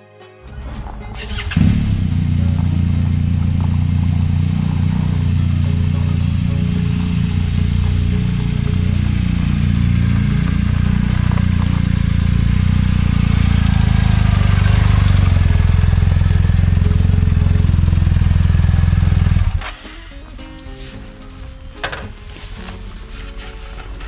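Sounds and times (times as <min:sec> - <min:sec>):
motorcycle engine running: 0:00.5 - 0:20.8.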